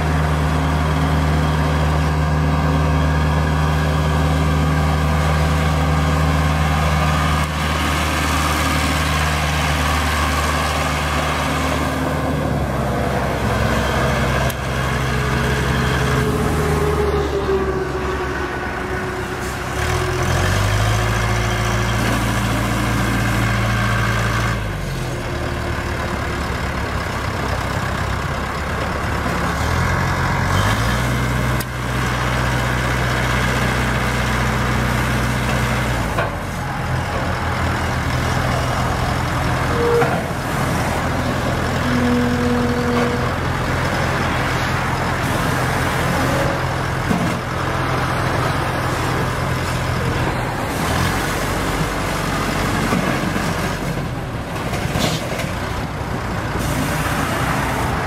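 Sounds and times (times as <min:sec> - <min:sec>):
backhoe engine revving: 0:00.0 - 0:58.0.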